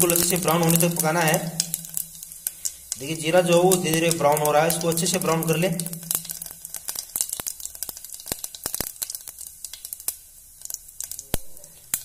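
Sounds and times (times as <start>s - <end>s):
oil hissing: 0.0s - 12.0s
seeds crackling in hot oil: 0.0s - 12.0s.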